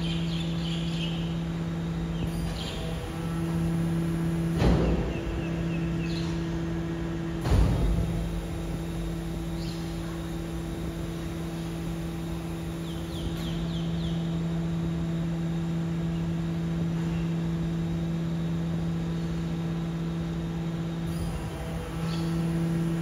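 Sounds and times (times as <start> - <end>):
electric truck hum: 0.0 - 23.0.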